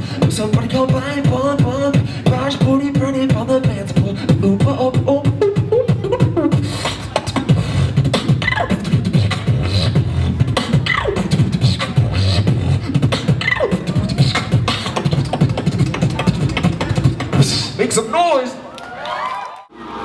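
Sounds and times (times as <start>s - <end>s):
beatboxing into a microphone: 0.0s - 18.0s.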